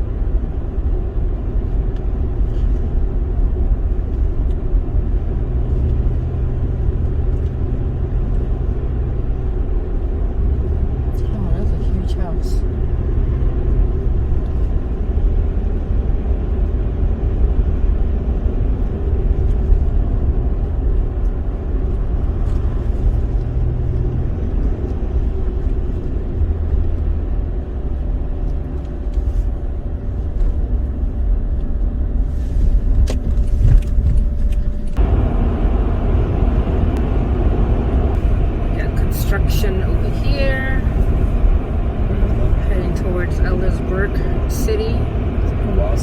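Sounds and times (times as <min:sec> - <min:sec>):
car interior road rumble: 0:00.0 - 0:46.0.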